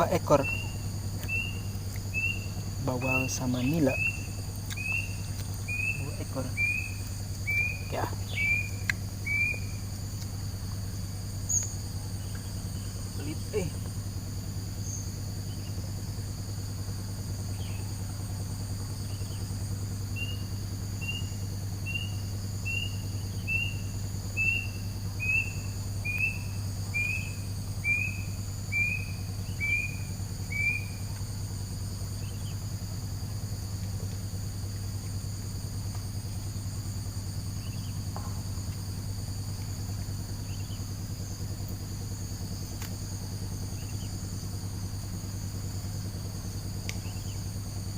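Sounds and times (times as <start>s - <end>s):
low hum: 0.0s - 47.9s
night insects trilling: 0.0s - 47.9s.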